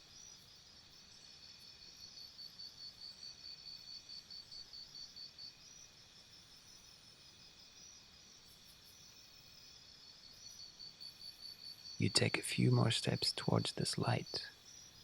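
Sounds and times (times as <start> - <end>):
crickets chirping: 0.1 - 15.0.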